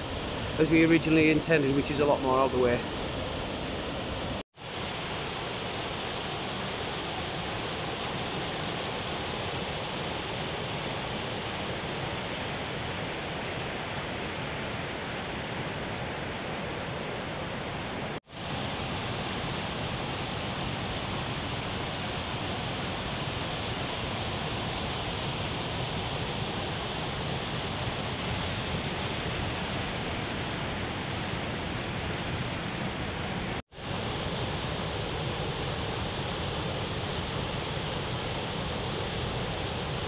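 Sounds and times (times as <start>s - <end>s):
water rushing over boulders: 0.0s - 40.0s.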